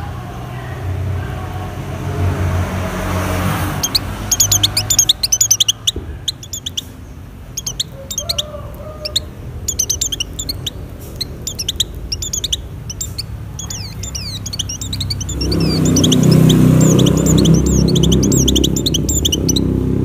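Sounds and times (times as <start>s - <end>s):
bird chirping song: 3.6s - 20.0s.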